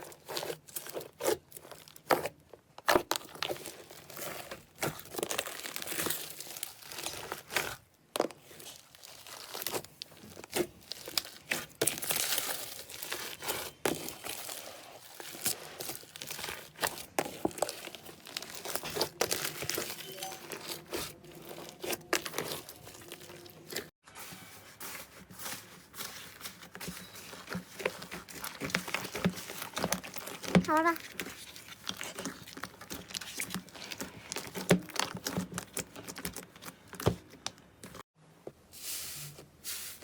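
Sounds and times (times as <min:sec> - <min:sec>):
slime crackling as kneaded: 0:00.0 - 0:23.9, 0:25.8 - 0:38.0.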